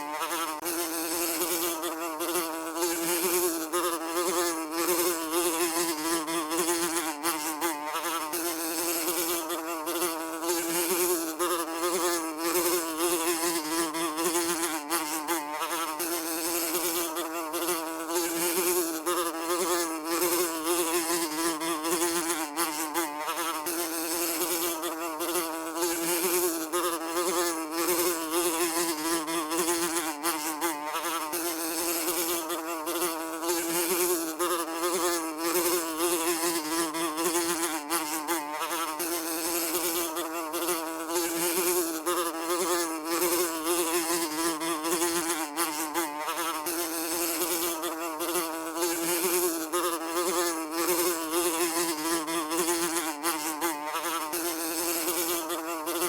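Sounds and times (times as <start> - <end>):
housefly buzzing: 0.0 - 56.0.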